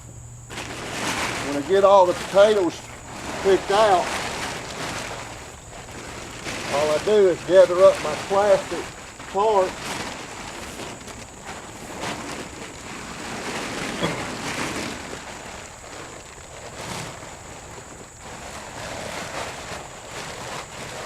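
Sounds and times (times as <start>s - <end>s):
plastic tarp rustling and crinkling: 0.0s - 21.0s.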